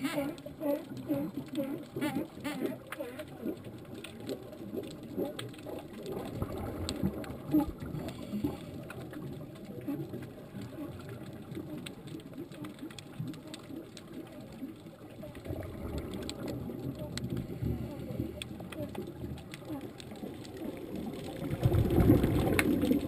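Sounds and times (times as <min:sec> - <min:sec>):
underwater rumble and gurgle: 0:00.0 - 0:23.0
sharp clicks and crackles: 0:00.1 - 0:23.0.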